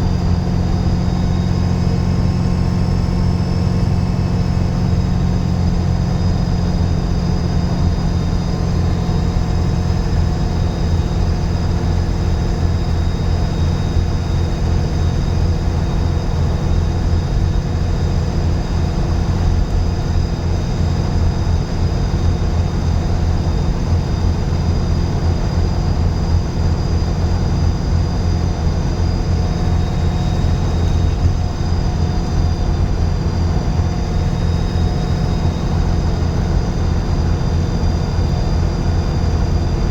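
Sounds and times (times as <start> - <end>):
bus engine drone: 0.0 - 39.9.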